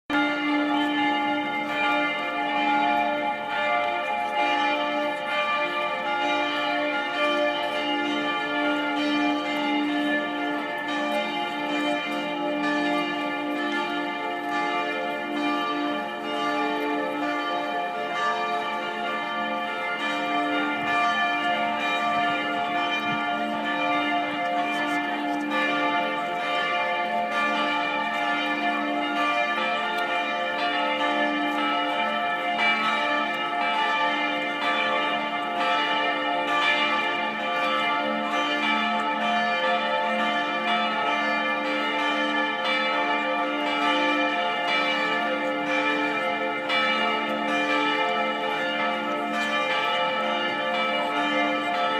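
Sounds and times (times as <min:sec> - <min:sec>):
church bells pealing: 0:00.1 - 0:51.9.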